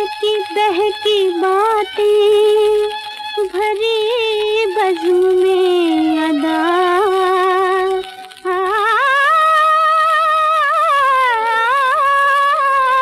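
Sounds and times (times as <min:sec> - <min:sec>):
old film song record: 0:00.0 - 0:13.0.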